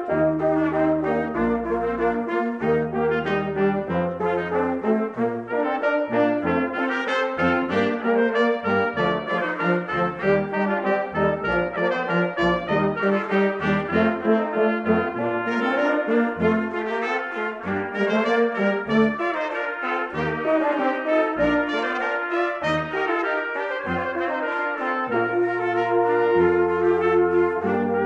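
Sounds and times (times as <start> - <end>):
brass ensemble playing: 0.0 - 28.0.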